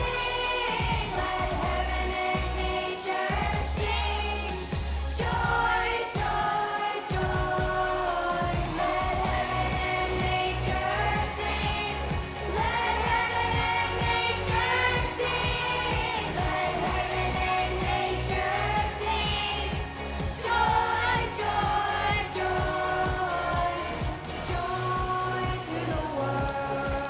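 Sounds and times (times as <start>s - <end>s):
pop song with singing: 0.0s - 27.0s.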